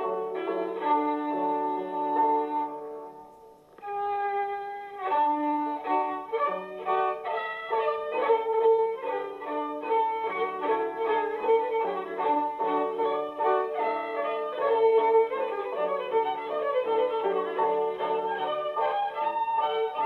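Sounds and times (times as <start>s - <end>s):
fiddle playing a tune: 0.0s - 20.0s.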